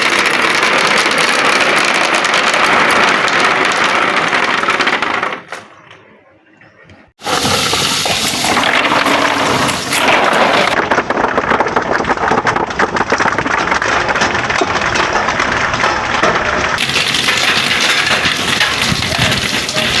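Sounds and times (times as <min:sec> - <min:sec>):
marbles rattling down track: 0:00.0 - 0:05.5, 0:07.2 - 0:20.0.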